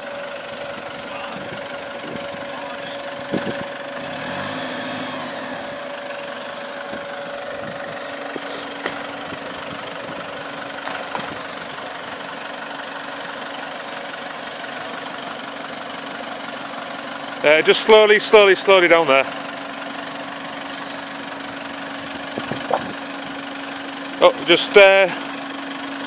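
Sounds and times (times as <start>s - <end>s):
engine running at low revs: 0.0s - 26.0s.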